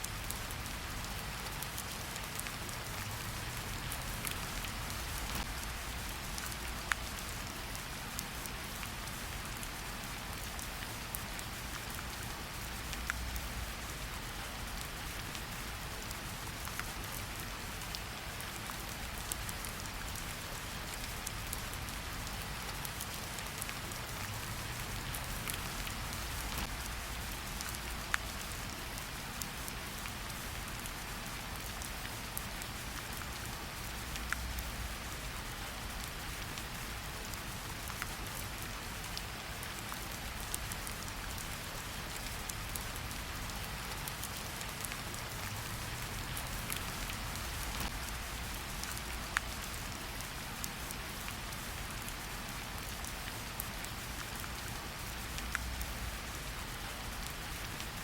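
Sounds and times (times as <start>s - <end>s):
rain pattering in forest: 0.0s - 58.0s.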